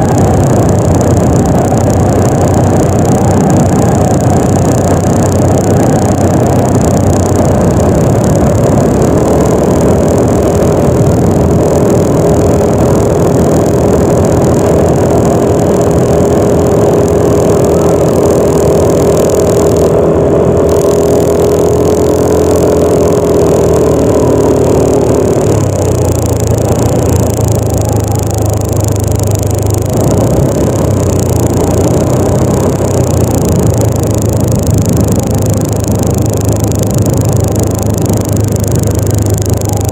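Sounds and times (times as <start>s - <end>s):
scooter engine droning: 0.0s - 39.9s.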